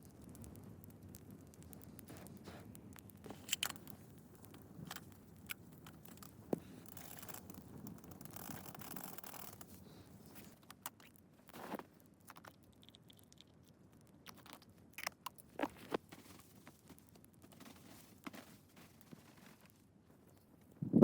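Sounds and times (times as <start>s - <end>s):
quiet scraping and rustling: 0.0s - 12.7s, 14.3s - 20.8s.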